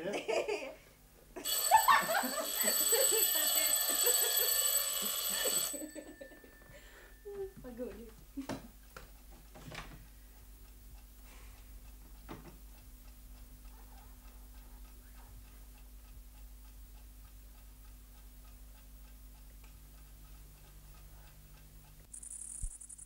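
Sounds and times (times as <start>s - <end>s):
clock ticking: 1.4s - 9.3s, 10.0s - 23.0s.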